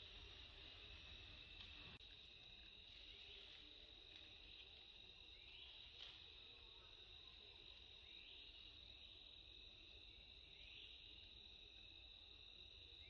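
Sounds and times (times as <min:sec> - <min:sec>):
insect chorus drone: 0:00.0 - 0:13.0.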